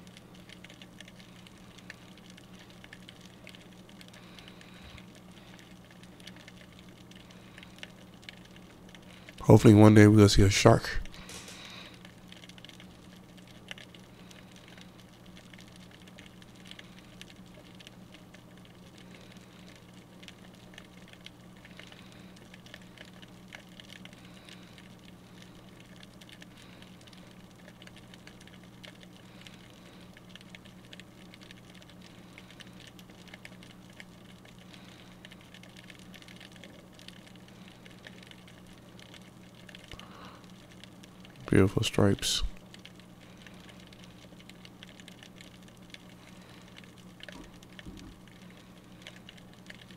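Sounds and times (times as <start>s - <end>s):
underwater crackle of clicks: 0.0s - 9.4s, 11.1s - 41.4s, 42.0s - 49.9s
low underwater hum: 0.0s - 49.9s.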